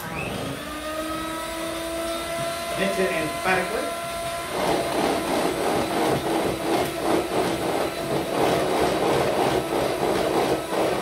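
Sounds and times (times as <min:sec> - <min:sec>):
electric hand mixer whisking: 0:00.0 - 0:11.0.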